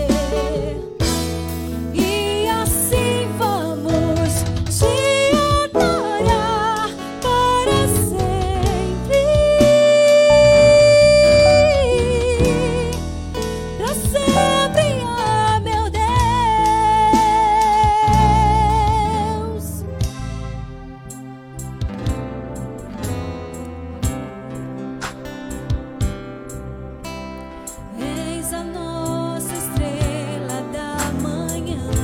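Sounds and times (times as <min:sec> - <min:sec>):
gospel band music: 0:00.0 - 0:27.0, 0:27.8 - 0:32.0.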